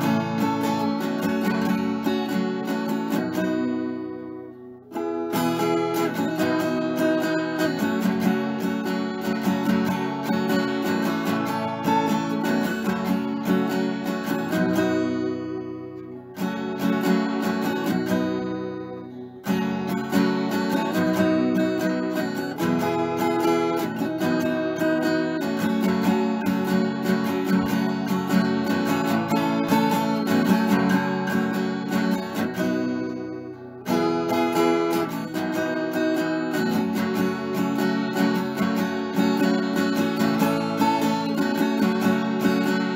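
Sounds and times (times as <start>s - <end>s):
strummed acoustic guitar chords: 0.0s - 42.9s.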